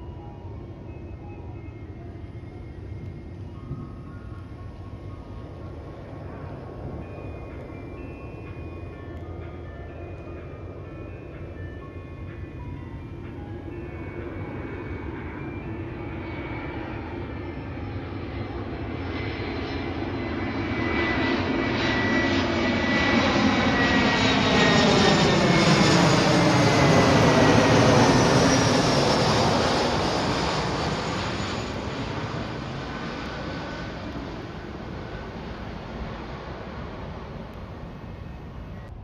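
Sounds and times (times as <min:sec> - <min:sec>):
jet airliner flying past: 0:00.0 - 0:39.0.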